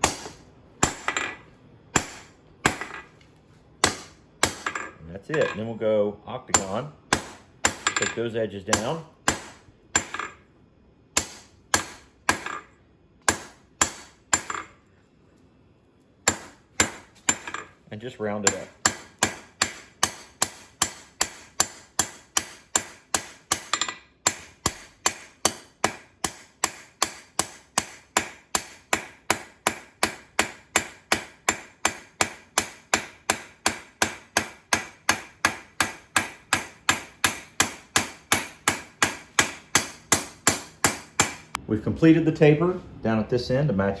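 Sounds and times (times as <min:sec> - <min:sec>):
hammer striking metal on anvil: 0:00.0 - 0:01.4, 0:02.0 - 0:03.1, 0:03.8 - 0:05.7, 0:06.5 - 0:10.4, 0:11.2 - 0:12.7, 0:13.3 - 0:14.7, 0:16.3 - 0:17.7, 0:18.4 - 0:41.6.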